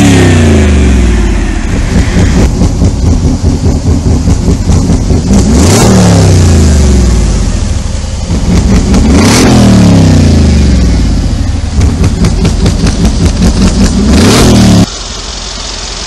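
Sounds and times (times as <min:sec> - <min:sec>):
car engine idling with throttle blips: 0:00.0 - 0:16.0.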